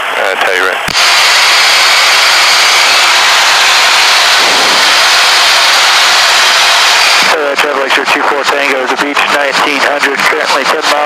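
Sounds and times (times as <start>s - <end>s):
jet engine and airflow rush: 0.0s - 11.0s.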